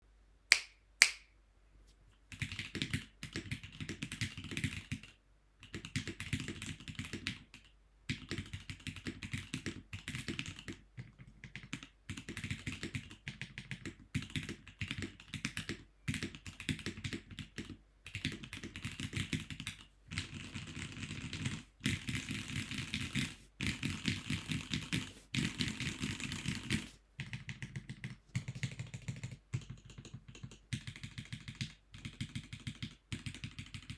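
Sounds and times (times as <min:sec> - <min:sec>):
mechanical keyboard typing: 0:02.3 - 0:33.9.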